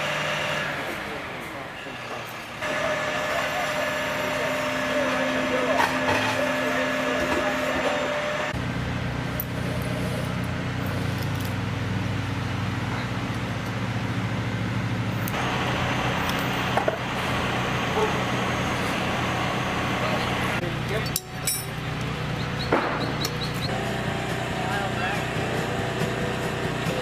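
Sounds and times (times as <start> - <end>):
heavy machinery engines running: 0.0 - 27.0.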